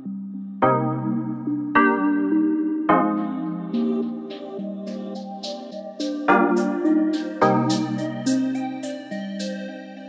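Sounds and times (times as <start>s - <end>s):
keyboard chords ringing: 0.0s - 10.0s.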